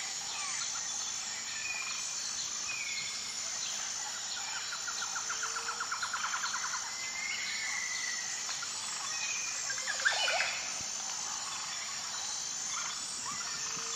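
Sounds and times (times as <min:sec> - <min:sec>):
high insect drone: 0:00.0 - 0:13.9.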